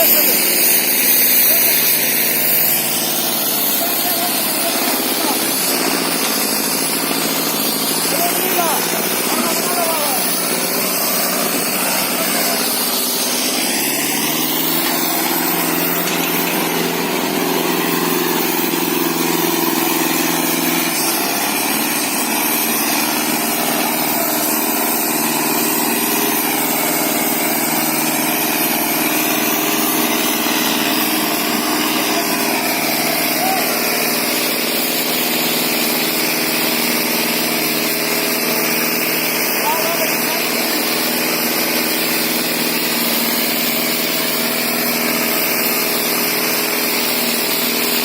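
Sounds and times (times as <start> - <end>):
tractor diesel engine revving: 0.0 - 48.0.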